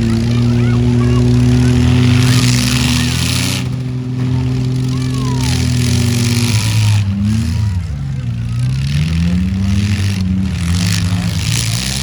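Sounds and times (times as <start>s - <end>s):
truck engines droning: 0.0s - 12.0s.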